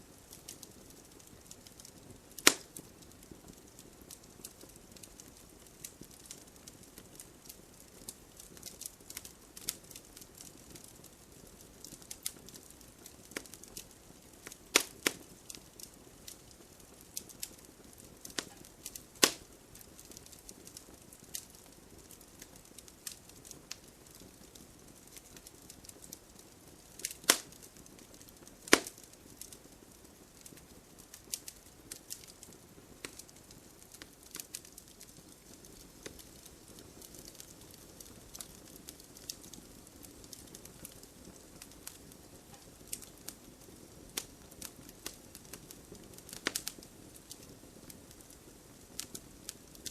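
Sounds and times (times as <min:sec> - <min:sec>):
wood fire crackling: 0:00.0 - 0:49.9
loud sharp pops of fire: 0:00.2 - 0:49.9.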